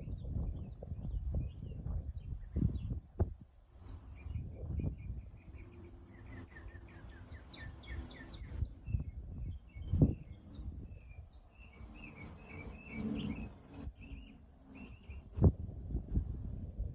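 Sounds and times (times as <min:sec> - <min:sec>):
bird chirping: 0:00.0 - 0:15.5, 0:16.4 - 0:16.9.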